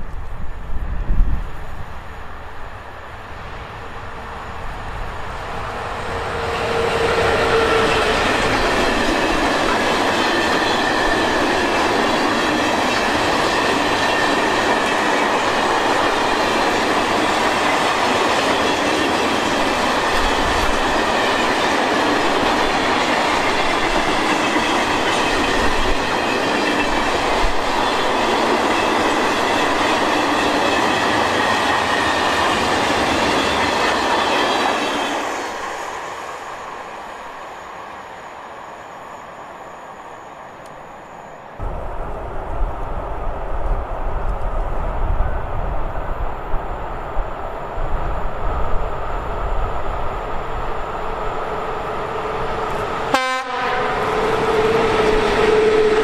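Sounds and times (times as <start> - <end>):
electric locomotive passing: 0.0 - 56.0.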